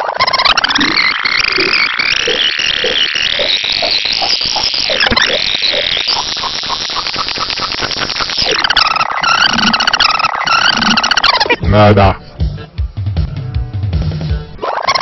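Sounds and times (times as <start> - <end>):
warbling electronic drone: 0.0 - 12.4, 14.5 - 15.0.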